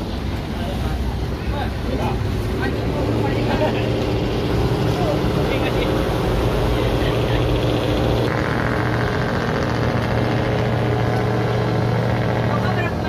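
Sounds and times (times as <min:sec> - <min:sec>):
speedboat engine humming: 0:00.0 - 0:13.0.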